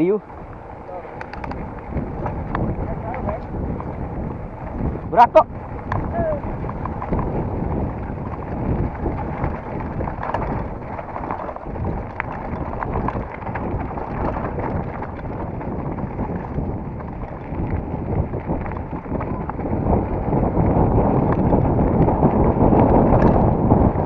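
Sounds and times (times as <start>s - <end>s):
mountain bike clattering on trail: 0.0s - 24.0s
wind buffeting microphone: 0.0s - 24.0s.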